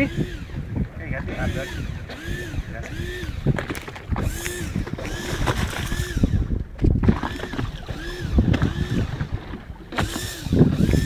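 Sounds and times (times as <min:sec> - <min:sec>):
fishing reel whining: 0:01.3 - 0:06.6, 0:07.2 - 0:11.0.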